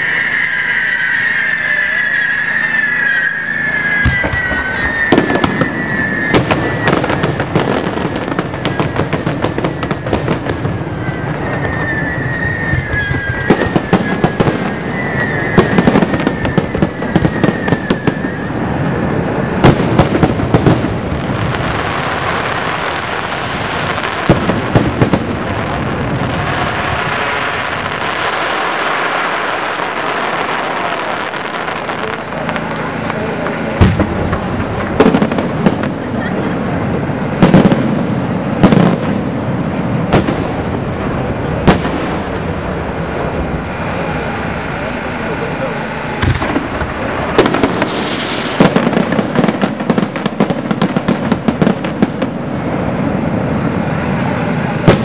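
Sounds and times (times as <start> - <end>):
fireworks bangs: 0.0 - 55.0
fireworks crackling: 0.0 - 55.0
whistling firework shells: 0.0 - 55.0.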